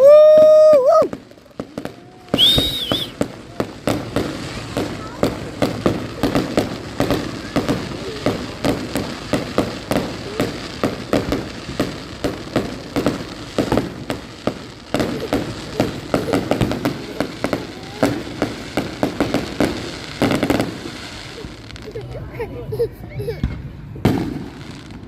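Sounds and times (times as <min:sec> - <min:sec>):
firecrackers popping: 0:00.0 - 0:22.1, 0:23.4 - 0:25.0.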